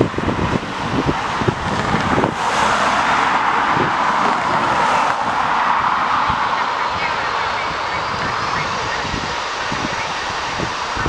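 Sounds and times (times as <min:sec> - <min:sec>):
jet engines: 0:00.0 - 0:11.0
wind buffeting microphone: 0:00.0 - 0:11.0.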